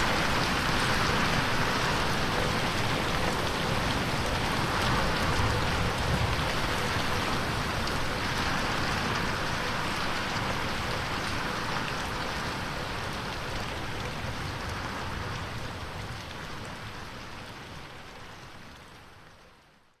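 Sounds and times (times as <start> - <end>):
rain on a window: 0.0 - 20.0.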